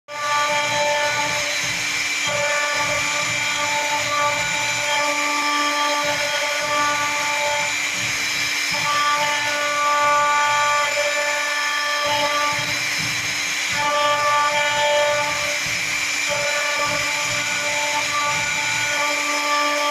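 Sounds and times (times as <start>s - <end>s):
cnc machine motors whining: 0.1s - 19.9s.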